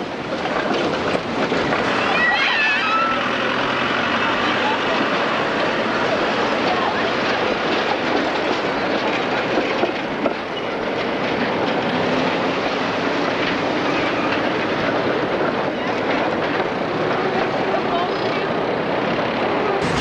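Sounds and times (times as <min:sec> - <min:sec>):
road traffic: 0:00.0 - 0:20.0
tram wheels on rails: 0:00.0 - 0:20.0.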